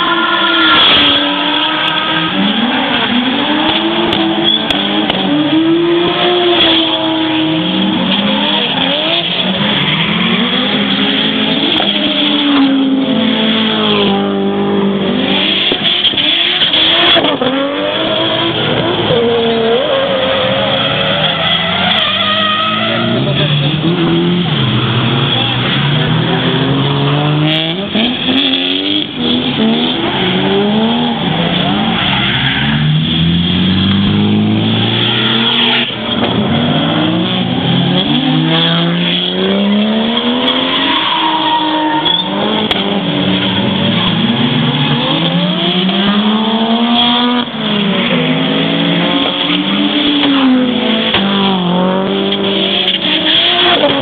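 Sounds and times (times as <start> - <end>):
tyres squealing and skidding: 0.0 - 14.3, 15.1 - 54.0
car engines revving: 0.0 - 54.0.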